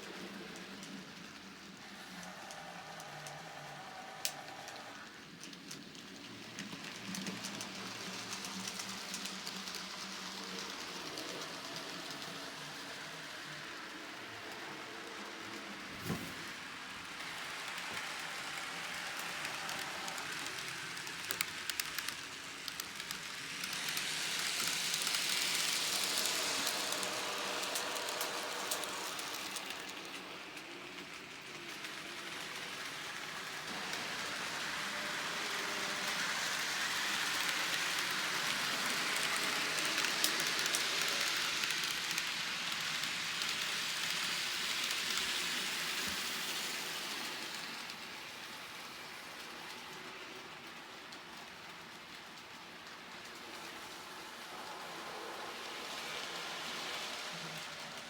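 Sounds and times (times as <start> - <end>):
model trains running on track: 0.0 - 58.0.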